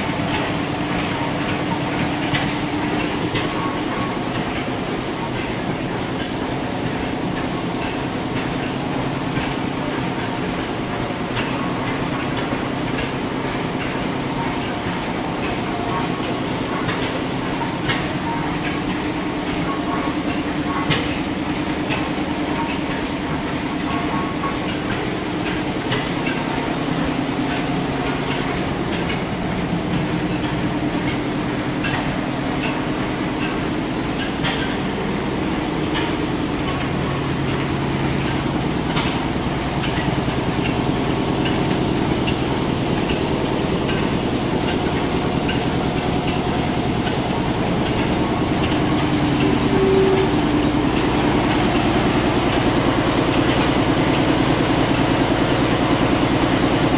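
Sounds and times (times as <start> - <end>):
steam engines running: 0.0 - 56.9.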